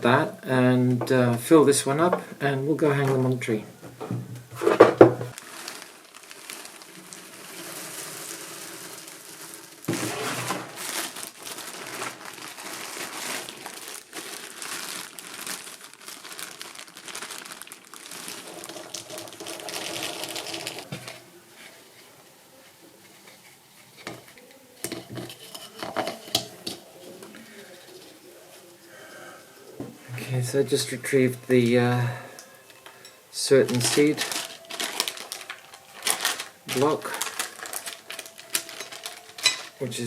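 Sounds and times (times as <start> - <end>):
wrapping crinkling and rustling: 0.0 - 40.0.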